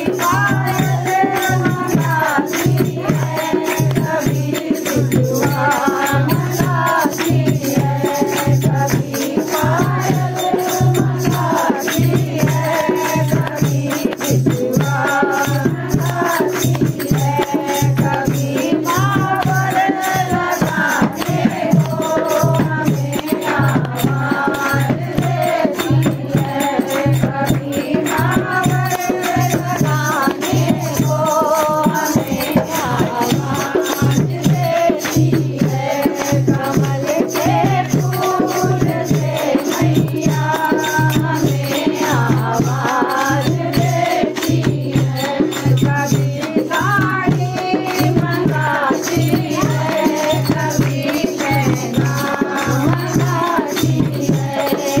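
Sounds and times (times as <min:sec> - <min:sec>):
devotional music: 0:00.0 - 0:55.0
fast percussion strokes: 0:00.0 - 0:55.0.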